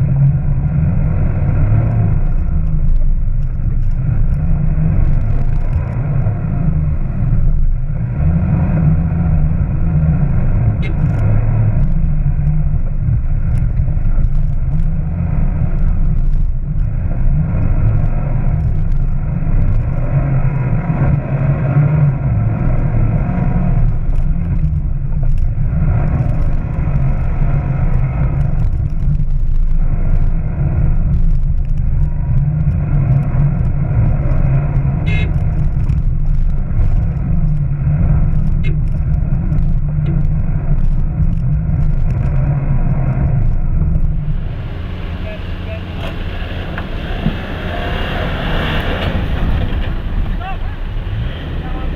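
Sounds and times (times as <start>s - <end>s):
off-road vehicle engine rumble: 0.0s - 51.9s.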